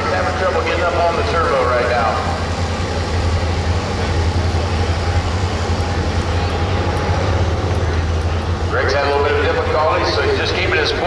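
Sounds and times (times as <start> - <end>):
diesel engine droning under load: 0.0 - 11.0.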